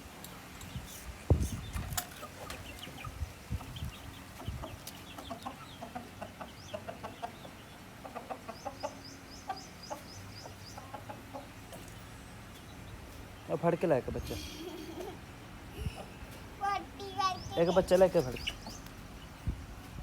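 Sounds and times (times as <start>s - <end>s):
chickens clucking: 0.5s - 20.0s.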